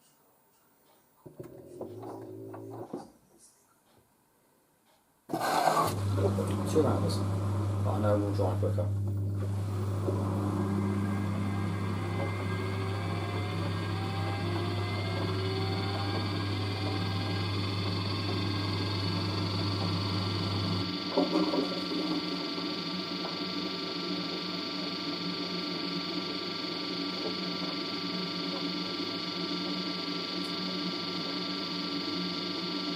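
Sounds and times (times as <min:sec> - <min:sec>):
washer dryer steady whine: 0:05.4 - 0:32.9
washer dryer low hum: 0:05.8 - 0:32.9.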